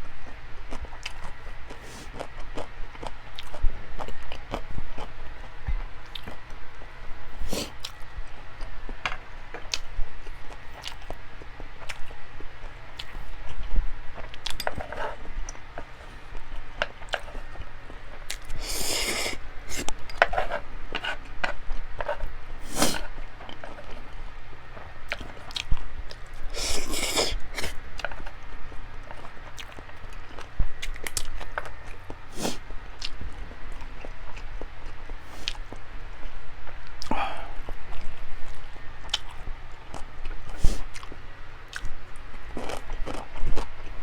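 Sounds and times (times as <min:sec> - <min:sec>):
person chewing food: 0:00.7 - 0:24.1, 0:24.8 - 0:44.0.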